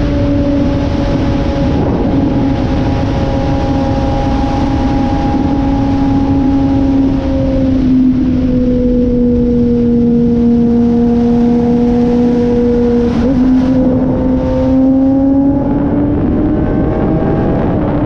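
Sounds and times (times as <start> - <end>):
motorcycle engine cruising: 0.0 - 18.0
wind noise: 0.0 - 18.0.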